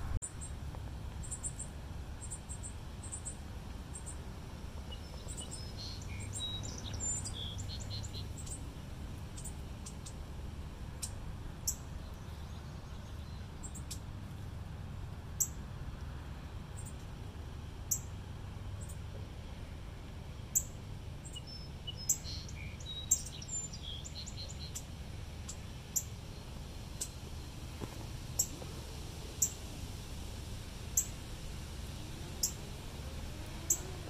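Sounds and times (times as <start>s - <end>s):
small birds chirping: 0.0s - 4.2s, 4.8s - 10.3s, 10.9s - 14.2s, 15.4s - 15.6s, 16.7s - 17.1s, 17.8s - 34.0s
steady low rumble: 0.0s - 34.0s.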